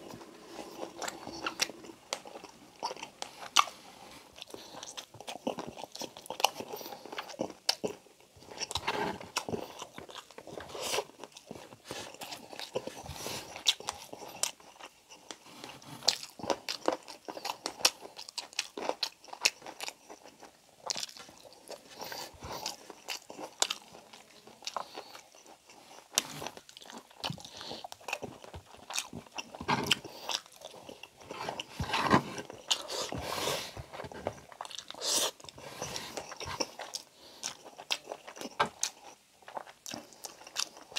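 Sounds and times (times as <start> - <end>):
man chewing with mouth sounds: 0.0 - 40.9.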